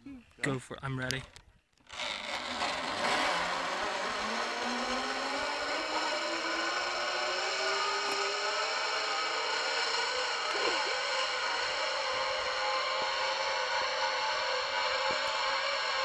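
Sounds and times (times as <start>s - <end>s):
pulley wheels whirring on cable: 1.8s - 16.0s.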